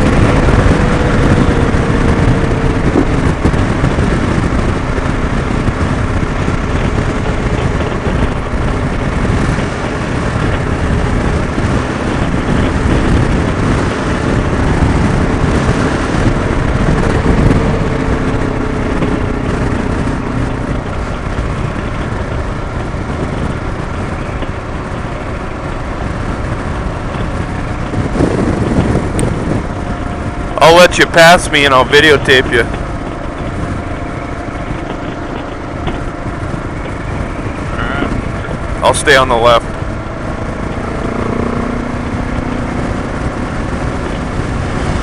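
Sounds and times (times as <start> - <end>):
motorcycle engine running: 0.0 - 45.0
wind and road noise: 0.0 - 45.0.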